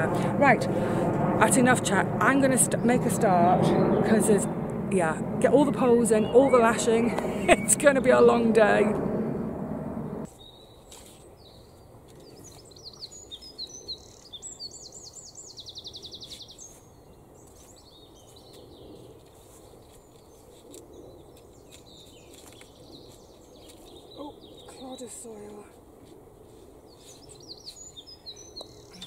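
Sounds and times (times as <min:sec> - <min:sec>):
songbird chirping and trilling: 0:01.7 - 0:09.2, 0:10.2 - 0:10.8, 0:11.4 - 0:19.0, 0:19.8 - 0:25.6, 0:26.9 - 0:29.0.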